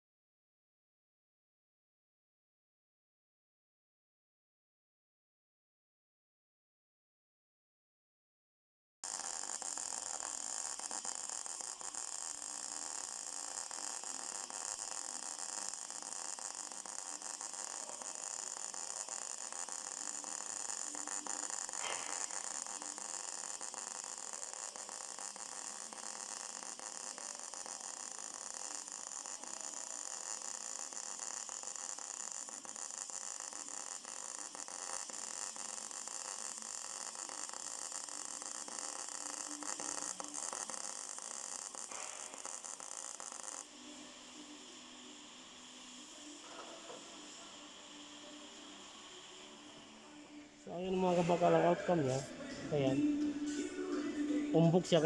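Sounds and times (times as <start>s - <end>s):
welding arc sizzling: 9.0s - 55.0s.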